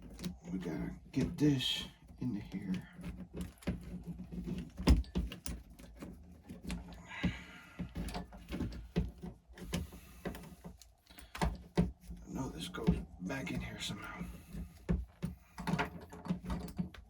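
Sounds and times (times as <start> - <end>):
plastic and metal parts clicking: 0.0 - 17.0.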